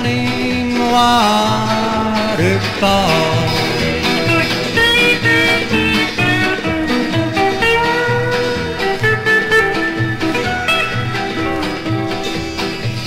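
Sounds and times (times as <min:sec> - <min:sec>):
bass and rhythm backing: 0:00.0 - 0:13.0
country guitar melody: 0:00.0 - 0:13.0.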